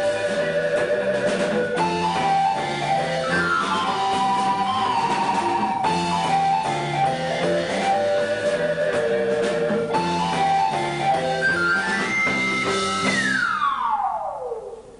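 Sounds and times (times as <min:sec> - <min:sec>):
rock band playing instrumental: 0:00.0 - 0:14.4.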